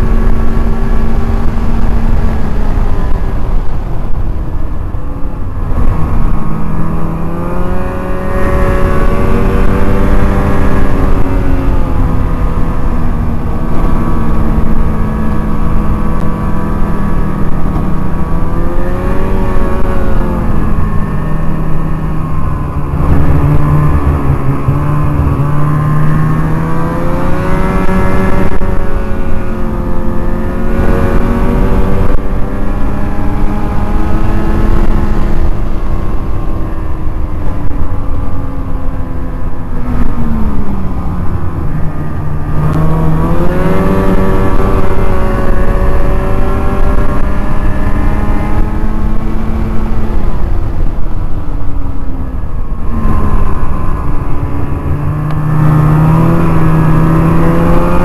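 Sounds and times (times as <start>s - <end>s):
snowmobile engine revving: 5.8s - 37.8s, 39.4s - 50.8s, 51.7s - 58.0s.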